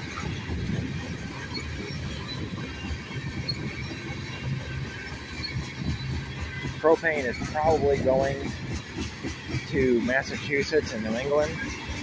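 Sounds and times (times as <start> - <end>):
faint high wheel squeal: 0.0 - 12.0
freight train rumbling over rails: 0.0 - 12.0.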